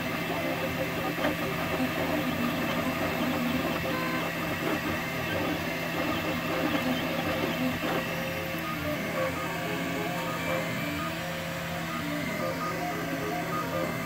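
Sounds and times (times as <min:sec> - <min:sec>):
steady machine hum: 0:00.0 - 0:14.0
stepper motors whirring: 0:00.0 - 0:14.0.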